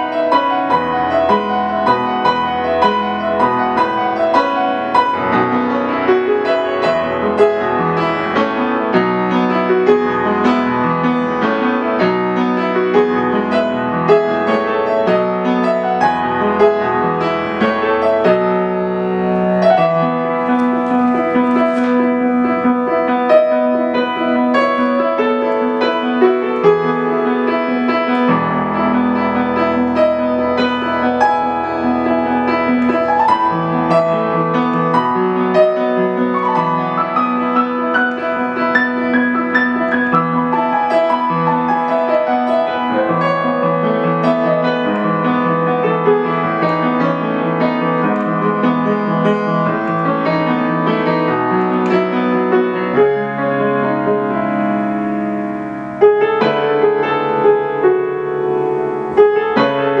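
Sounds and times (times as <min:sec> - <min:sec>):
solo piano music: 0:00.0 - 1:00.0.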